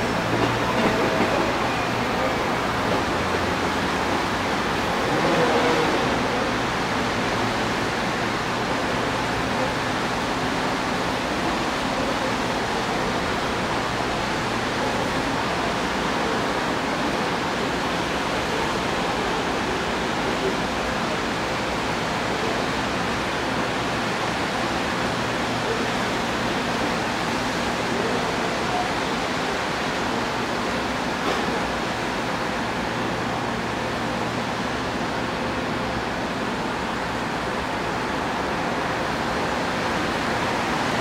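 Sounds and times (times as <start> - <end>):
train equipment rushing hum: 0.0 - 41.0.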